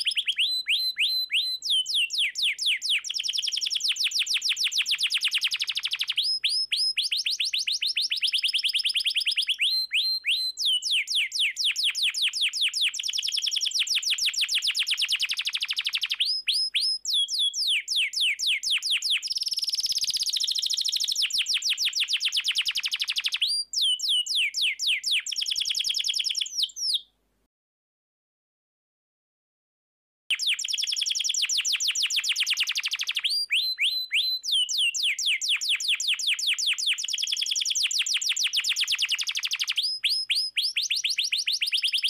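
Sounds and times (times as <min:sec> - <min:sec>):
canary singing trills: 0:00.0 - 0:27.1, 0:30.3 - 0:42.0.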